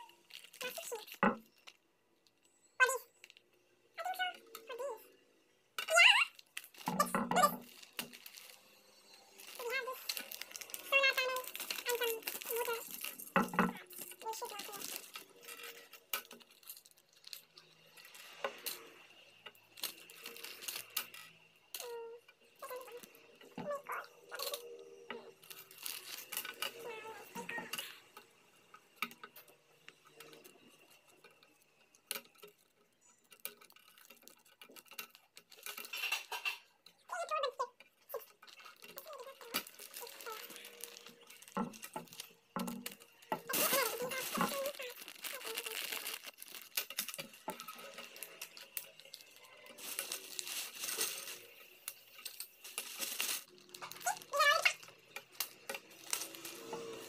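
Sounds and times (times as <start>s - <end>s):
plastic bag crinkling: 0.0s - 5.0s, 5.8s - 57.0s.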